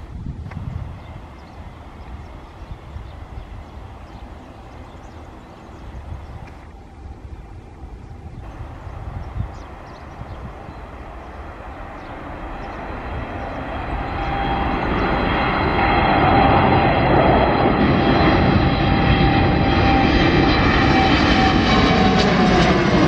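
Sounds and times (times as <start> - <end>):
jet engine whine: 0.0 - 23.0
jet engines roaring: 0.5 - 23.0.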